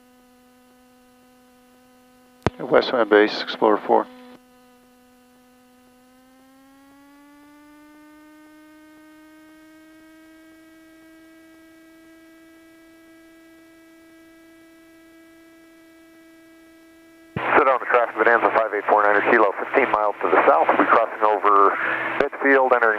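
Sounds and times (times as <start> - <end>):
electrical whine: 0.0 - 22.9.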